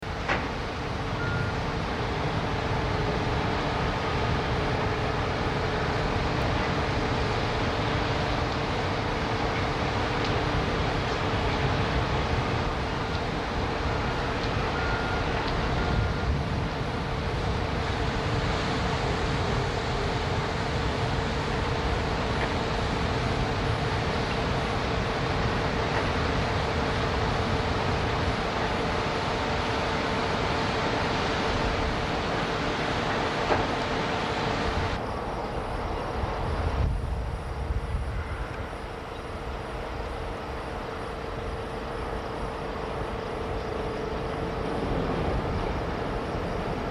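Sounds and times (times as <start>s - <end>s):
constant machine hum: 0.0s - 46.9s
heavy industrial machinery noise: 0.0s - 46.9s.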